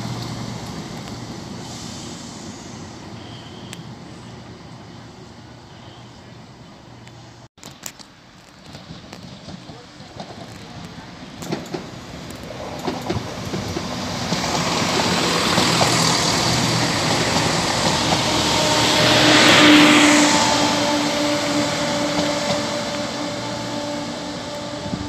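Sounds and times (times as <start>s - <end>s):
train engine hum: 0.0s - 25.0s
wheels rushing on rails: 0.0s - 25.0s.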